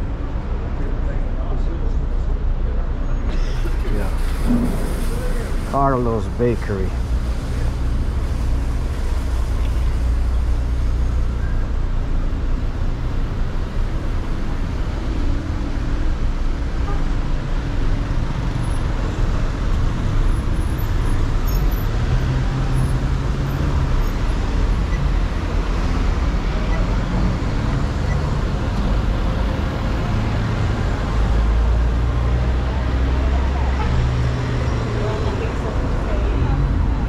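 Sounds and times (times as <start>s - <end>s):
road traffic hum: 0.0s - 37.0s.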